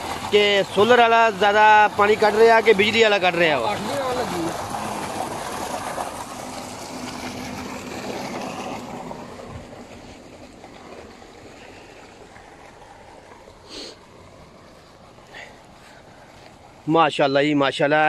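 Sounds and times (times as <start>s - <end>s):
water gushing into concrete channel: 0.0s - 17.2s.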